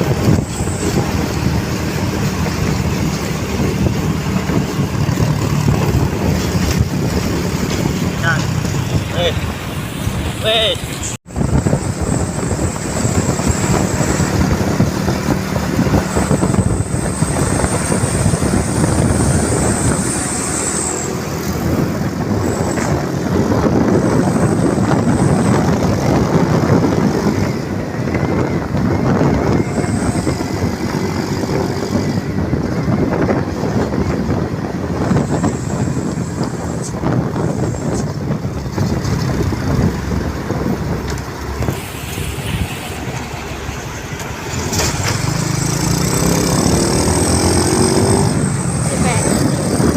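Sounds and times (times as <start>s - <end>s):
road noise: 0.0s - 49.9s
truck engine rumble: 0.0s - 49.9s.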